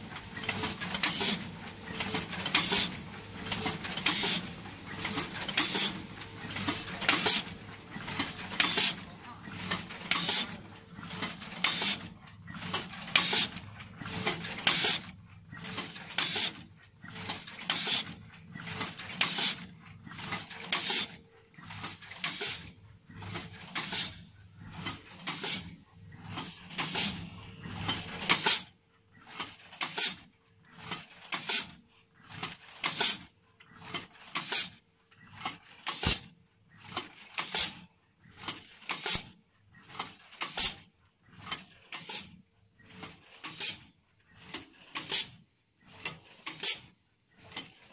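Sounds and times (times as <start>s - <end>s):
pneumatic actuators hissing and clacking: 0.0s - 34.8s, 35.4s - 36.3s, 36.9s - 37.8s, 38.4s - 47.9s.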